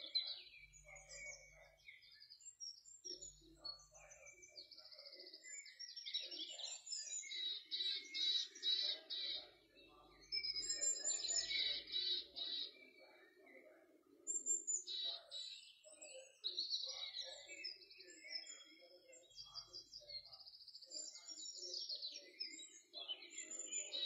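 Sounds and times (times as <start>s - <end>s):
small birds chirping and singing: 0.0s - 24.0s.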